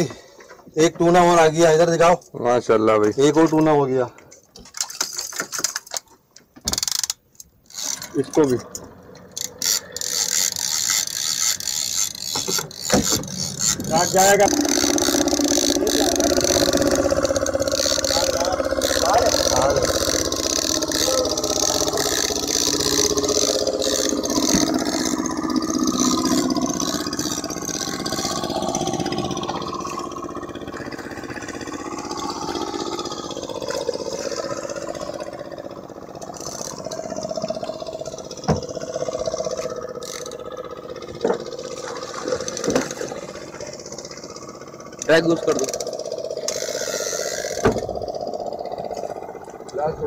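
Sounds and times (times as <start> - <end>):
boat engine running: 0.0 - 50.0.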